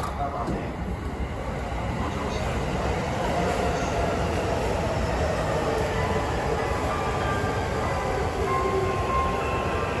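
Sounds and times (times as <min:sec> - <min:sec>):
electric train rumble and hum: 0:00.0 - 0:10.0.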